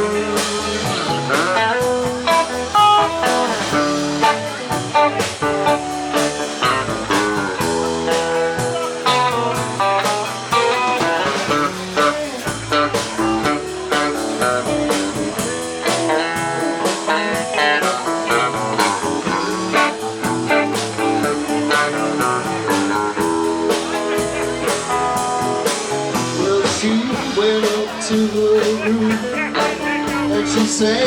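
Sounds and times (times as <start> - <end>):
bass guitar: 0.0 - 31.0
electric guitars: 0.0 - 31.0
steady drum beat: 0.0 - 31.0.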